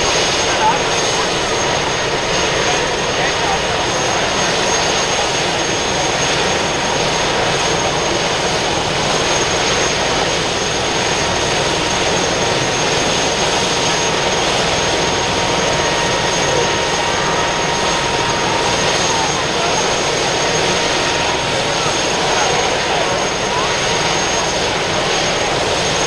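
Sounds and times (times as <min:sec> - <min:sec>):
helicopter turbine whine: 0:00.0 - 0:26.0
rushing rotor noise: 0:00.0 - 0:26.0.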